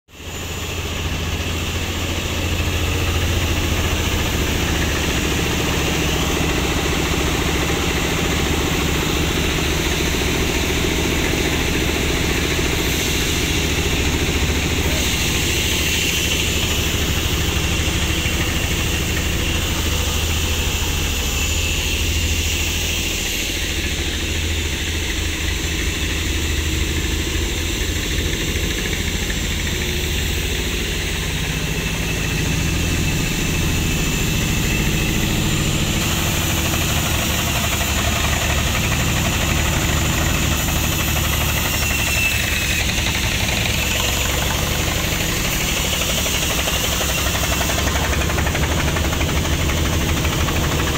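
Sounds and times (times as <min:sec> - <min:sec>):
engine running steadily: 0:00.1 - 0:50.9.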